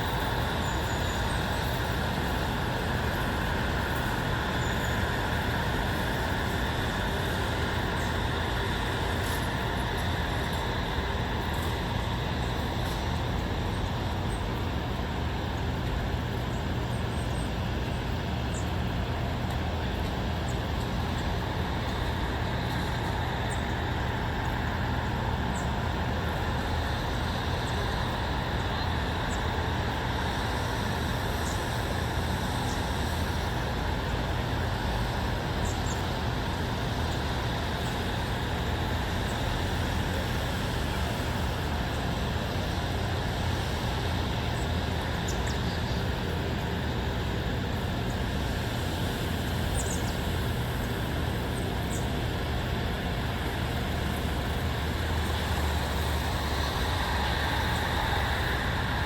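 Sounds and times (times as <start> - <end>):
distant road traffic: 0.0 - 59.0.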